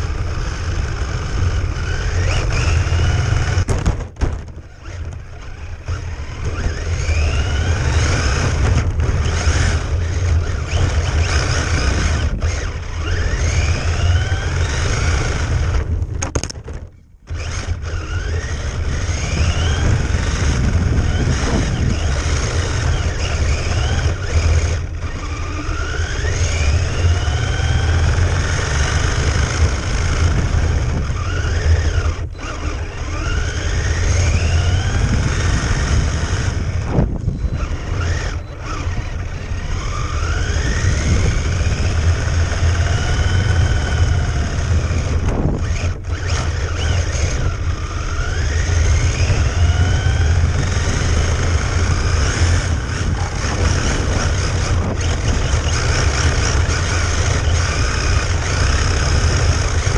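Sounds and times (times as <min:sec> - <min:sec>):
toy car motor whining: 0:00.0 - 0:03.8, 0:04.4 - 0:16.6, 0:17.3 - 0:59.9.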